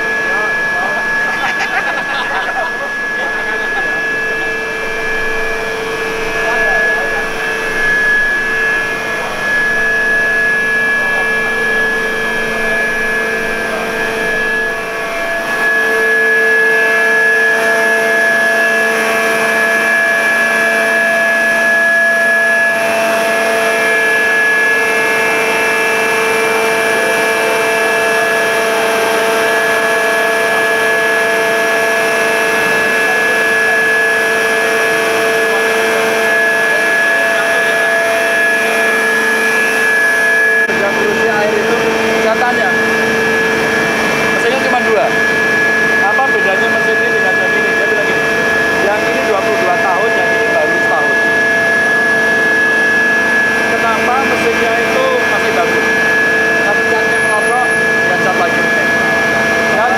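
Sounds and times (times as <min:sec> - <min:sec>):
machinery whining tones: 0:00.0 - 0:59.9
pumping machinery droning: 0:00.0 - 0:59.9.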